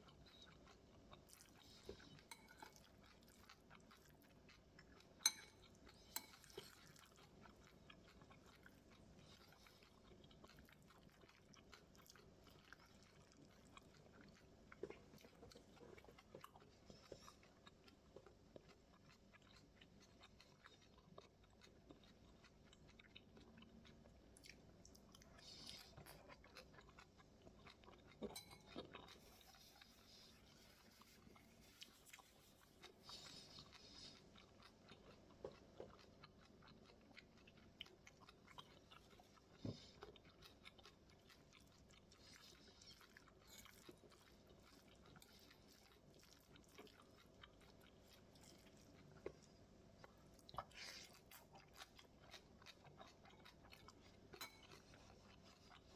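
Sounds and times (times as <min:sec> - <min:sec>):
close chewing: 0:00.0 - 0:55.9.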